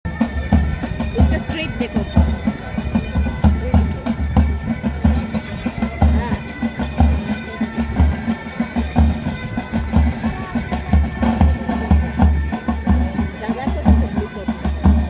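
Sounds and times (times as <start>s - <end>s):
bagpipes playing: 0.1s - 15.0s.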